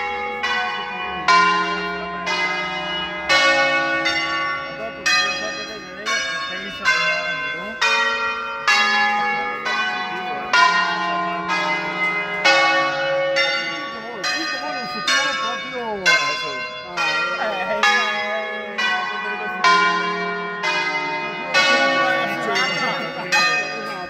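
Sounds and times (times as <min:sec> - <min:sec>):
church bells playing a tune: 0:00.0 - 0:24.0.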